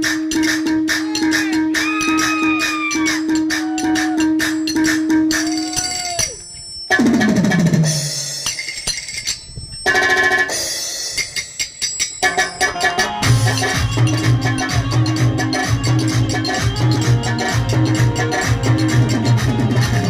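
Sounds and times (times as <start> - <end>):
music with drums and percussion: 0.0 - 20.0.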